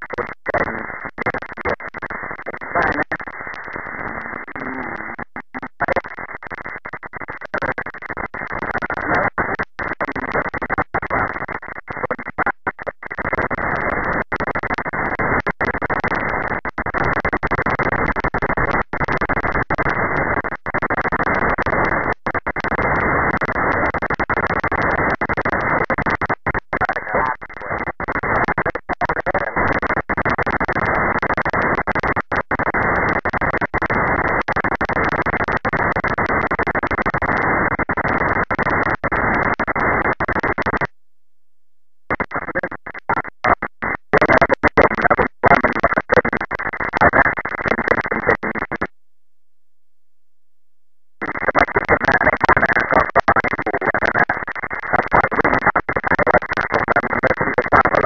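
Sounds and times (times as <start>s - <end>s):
rough radio static hiss: 0.0s - 41.0s, 42.0s - 49.0s, 51.1s - 58.0s.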